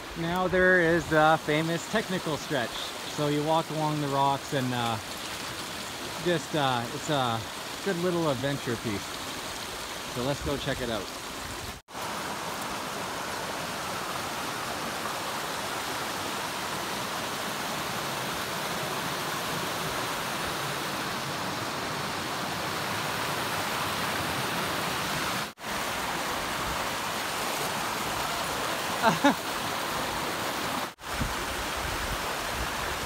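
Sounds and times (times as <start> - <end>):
stream rushing over rock: 0.0 - 33.0.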